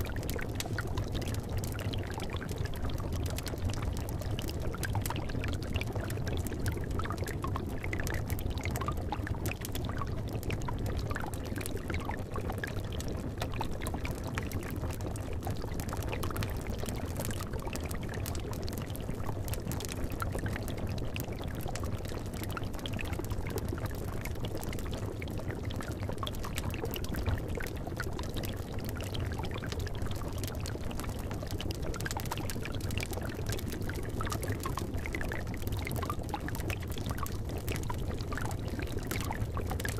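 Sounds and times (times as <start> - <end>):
liquid bubbling and gurgling: 0.0 - 39.9.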